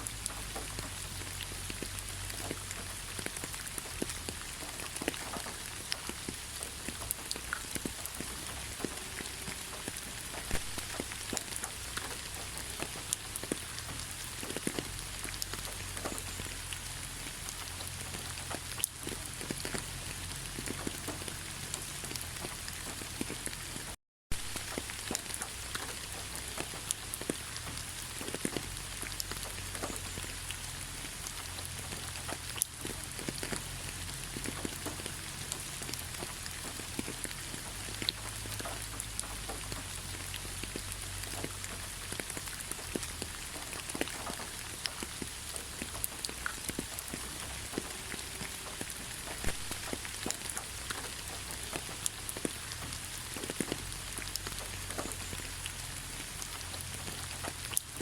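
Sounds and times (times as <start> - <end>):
raindrops ticking: 0.0 - 58.0
steady rain: 0.0 - 58.0.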